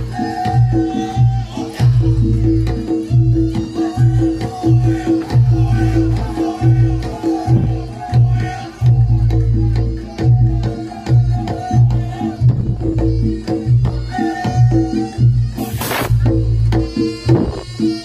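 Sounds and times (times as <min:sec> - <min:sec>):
hand drums beating: 0:00.0 - 0:18.0.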